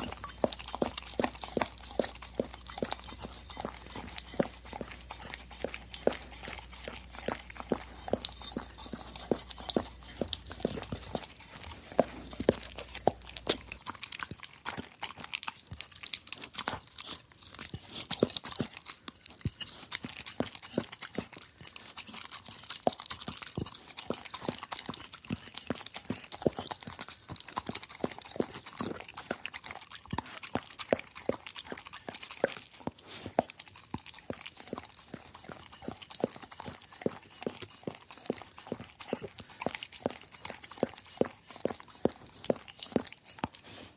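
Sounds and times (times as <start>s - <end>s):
dog licking a plate: 0.0s - 43.9s.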